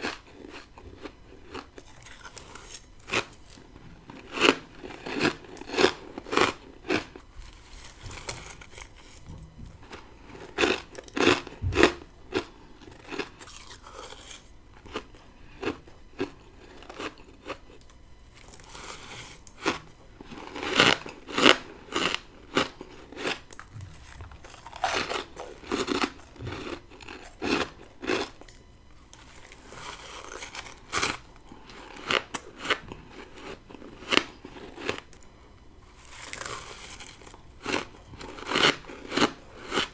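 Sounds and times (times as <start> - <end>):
frost crunching while chewed: 0.0 - 39.9.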